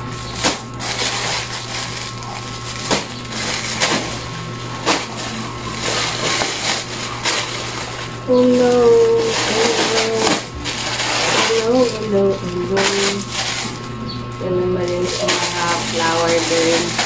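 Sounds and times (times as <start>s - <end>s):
plastic packaging crinkling: 0.0s - 17.0s
steady low hum: 0.0s - 17.0s.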